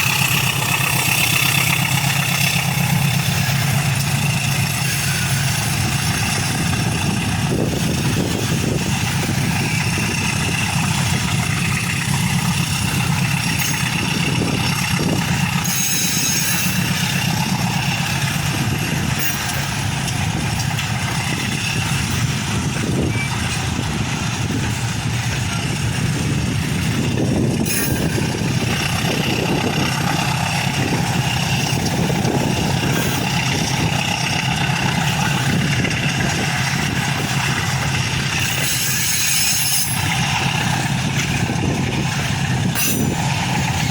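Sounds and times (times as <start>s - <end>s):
diesel locomotive engine idling: 0.0s - 43.9s.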